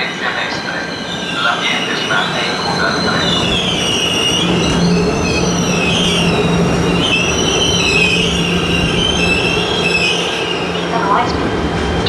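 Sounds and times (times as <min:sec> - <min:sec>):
train wheels squealing on rails: 0:00.0 - 0:11.5
moving train rumble: 0:00.0 - 0:12.0.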